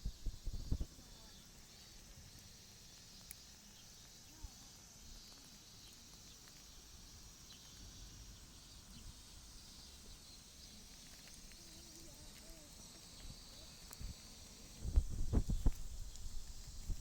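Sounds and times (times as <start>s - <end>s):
faint ticks: 0.0s - 17.0s
insects droning: 0.0s - 17.0s.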